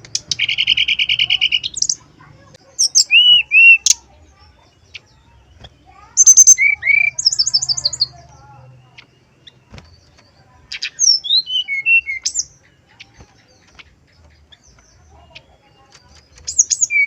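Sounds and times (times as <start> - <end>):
bird singing whistled notes: 0.0 - 17.0.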